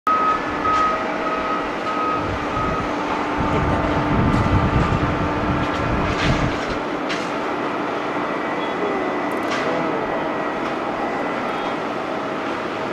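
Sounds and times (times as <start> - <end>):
jet engines droning: 0.1 - 12.9.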